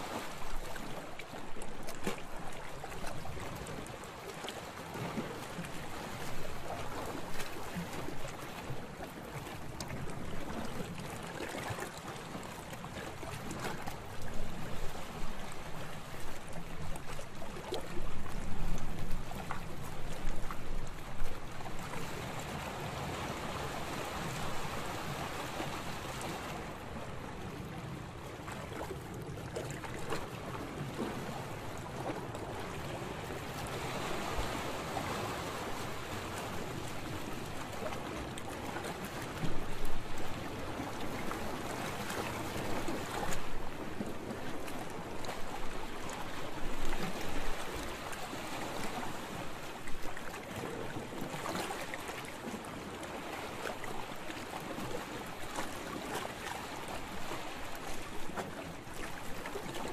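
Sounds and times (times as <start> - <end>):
water sloshing in choppy waves: 0.0 - 59.9.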